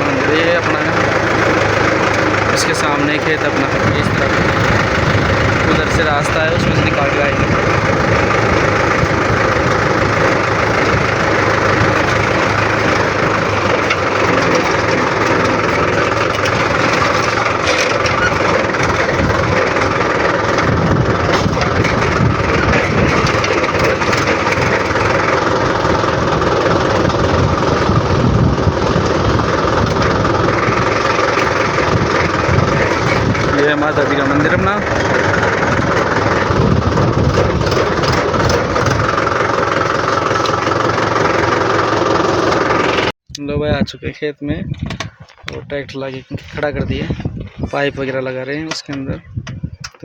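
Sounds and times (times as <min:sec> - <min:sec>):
tractor engine running: 0:00.0 - 0:43.2, 0:44.6 - 0:50.0.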